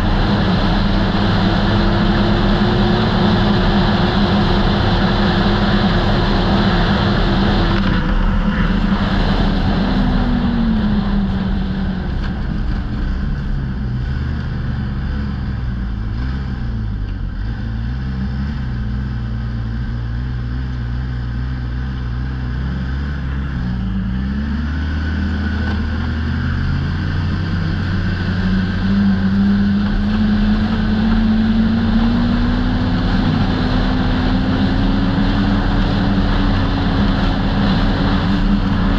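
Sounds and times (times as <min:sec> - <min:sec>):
snowmobile engine: 0:00.0 - 0:38.9
wind and track noise: 0:00.0 - 0:38.9.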